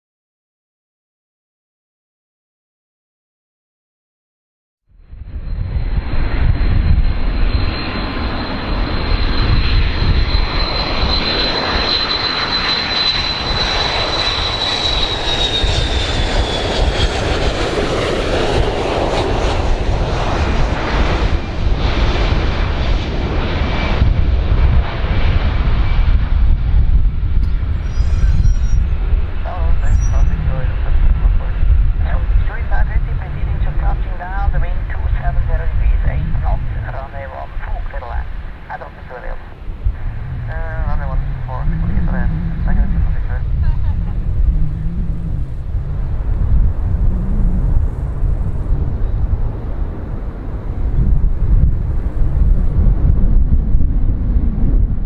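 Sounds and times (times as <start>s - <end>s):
airplane jet engines roaring: 5.0s - 55.0s.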